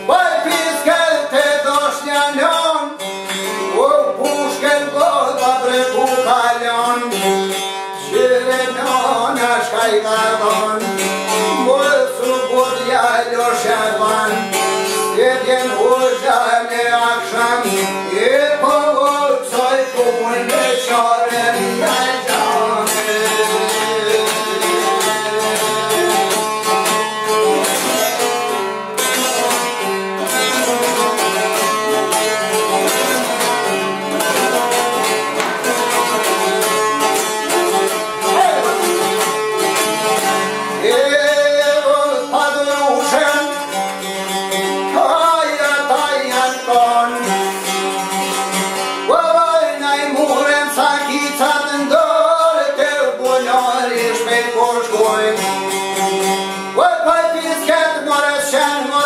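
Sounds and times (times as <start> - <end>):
man singing folk song: 0.0 - 59.0
plucked lutes: 0.0 - 59.0.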